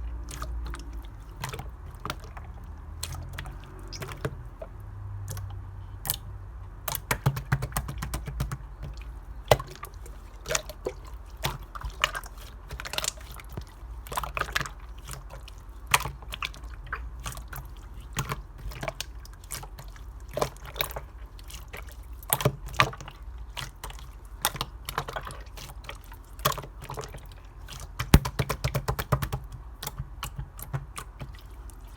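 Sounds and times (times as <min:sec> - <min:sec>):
slime squishing with wet pops: 0:00.1 - 0:31.9.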